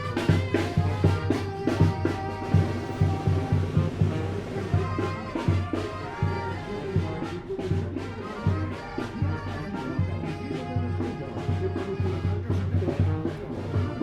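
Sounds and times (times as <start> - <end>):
bass drum beats: 0.0 - 14.0
brass horns playing tune: 0.0 - 14.0.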